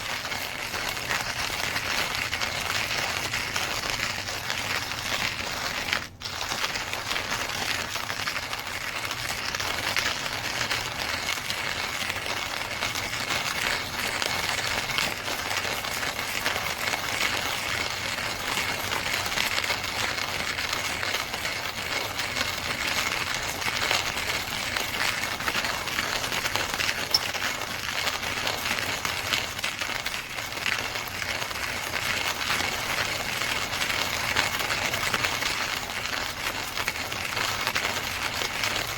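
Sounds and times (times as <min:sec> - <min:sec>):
coffee grinder grinding beans: 0:00.0 - 0:38.9.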